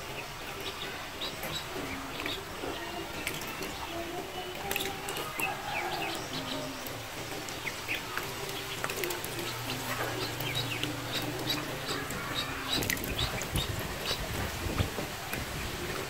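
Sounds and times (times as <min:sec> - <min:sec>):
ducklings peeping: 0:00.0 - 0:16.0
light water splashing: 0:00.0 - 0:16.0.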